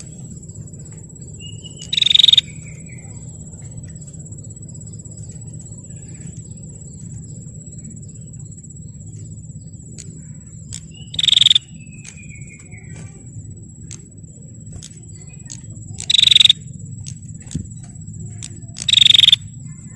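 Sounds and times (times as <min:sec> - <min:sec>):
bird high-pitched trill: 0:00.0 - 0:19.9.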